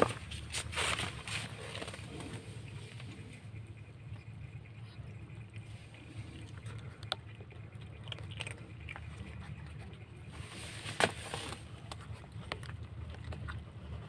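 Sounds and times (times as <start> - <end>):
kittens crunching dry kibble: 0.0 - 14.0
low steady hum: 0.0 - 14.0.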